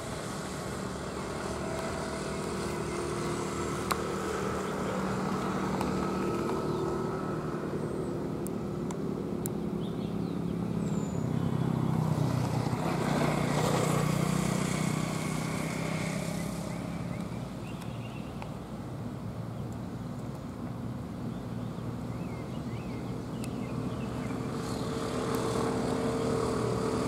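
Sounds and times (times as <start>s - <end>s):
bus diesel engine passing: 0.0s - 17.8s, 21.8s - 27.0s.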